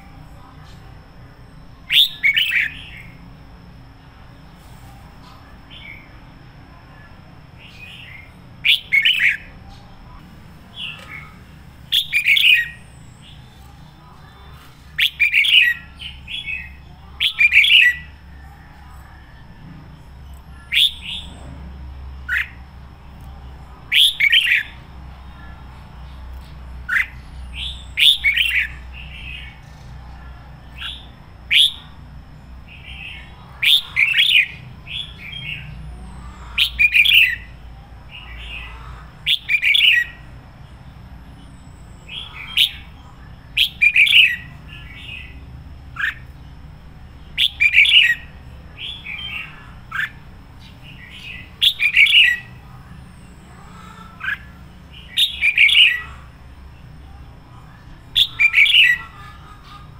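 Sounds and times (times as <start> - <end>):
bulbul singing: 0.0 - 4.6, 5.2 - 59.9.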